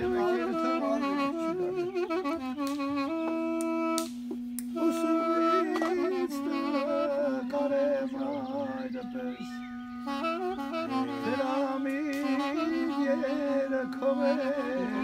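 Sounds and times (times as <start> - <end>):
held drone note: 0.0 - 15.0
wooden pipe melody with vibrato: 0.0 - 15.0.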